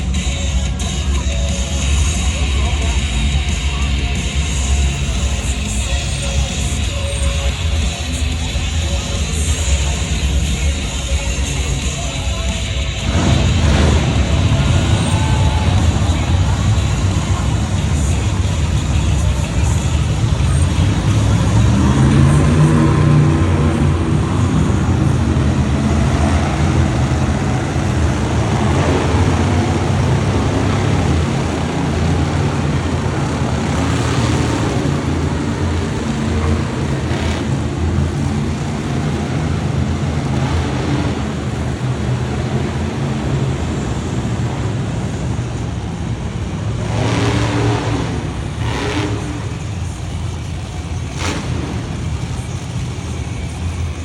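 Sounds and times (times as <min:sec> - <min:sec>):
truck engine revving loud: 0:00.0 - 0:54.0.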